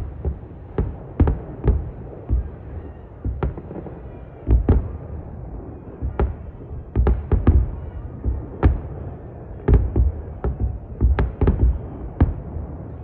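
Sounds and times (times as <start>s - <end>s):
fireworks booming and cracking: 0.0s - 13.0s
low continuous rumble: 0.0s - 13.0s.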